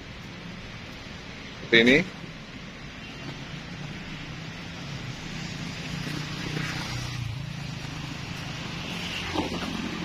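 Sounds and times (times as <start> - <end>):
background noise: 0.0 - 10.0.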